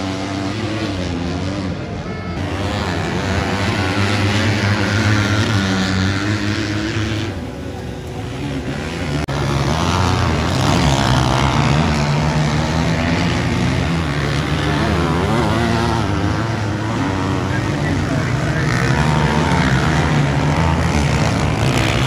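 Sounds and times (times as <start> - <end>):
motocross bikes revving: 0.0 - 22.0.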